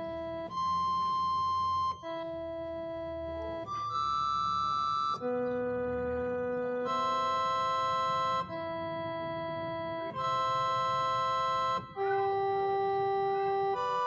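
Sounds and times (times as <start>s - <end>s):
slow organ chords: 0.0s - 14.0s.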